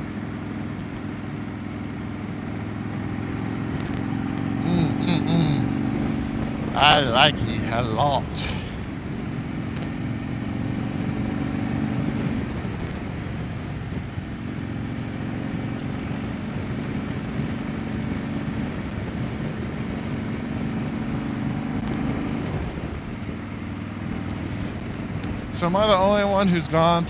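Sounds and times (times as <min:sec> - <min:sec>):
motorcycle engine cruising: 0:00.0 - 0:27.0
road and wind noise: 0:00.0 - 0:27.0.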